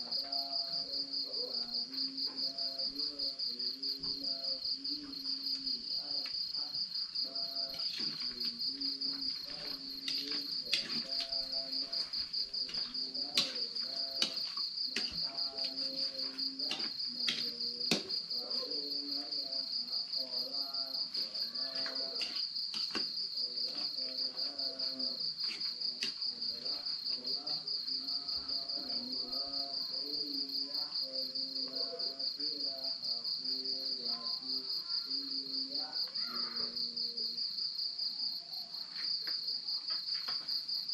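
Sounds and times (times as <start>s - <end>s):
distant person chanting: 0.0s - 22.4s, 23.3s - 37.4s
crickets chirping: 0.0s - 40.9s.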